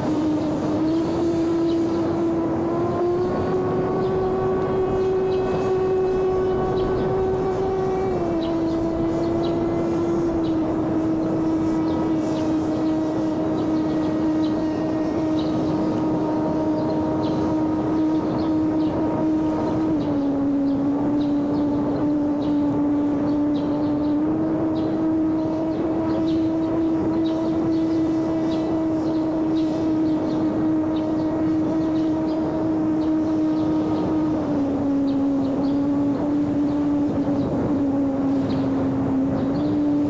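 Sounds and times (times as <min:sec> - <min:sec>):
model airplane motor buzzing: 0:00.0 - 0:40.0.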